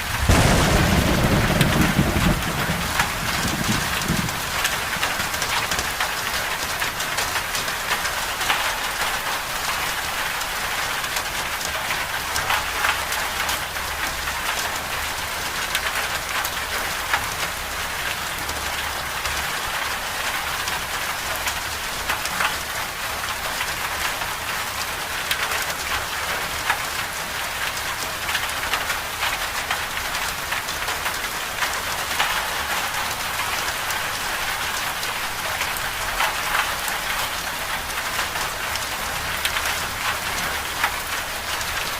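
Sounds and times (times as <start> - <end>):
rain patter: 0.0 - 41.9.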